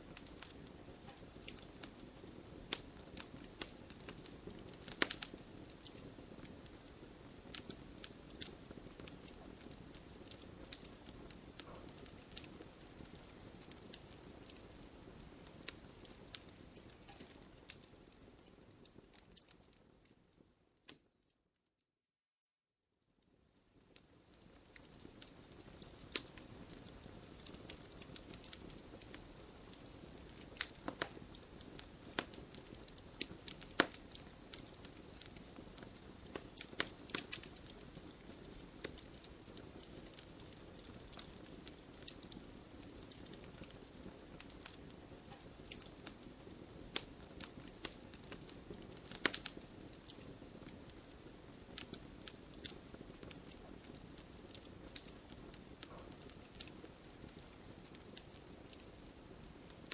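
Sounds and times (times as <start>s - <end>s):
fire hissing and rumbling: 0.0s - 20.5s, 23.3s - 59.9s
fire crackling and popping: 0.0s - 21.2s, 23.2s - 59.9s.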